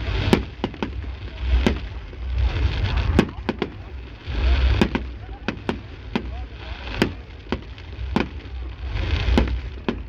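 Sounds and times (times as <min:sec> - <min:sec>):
fireworks bangs: 0:00.0 - 0:10.0
low rumble and hiss: 0:00.0 - 0:10.0.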